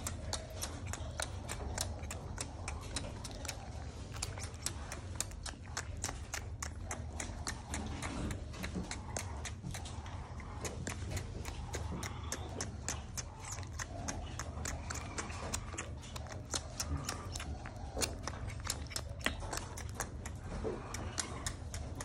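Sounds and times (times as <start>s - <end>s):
baby raccoon suckling clicks: 0.0s - 22.0s
steady low hum: 0.0s - 22.0s.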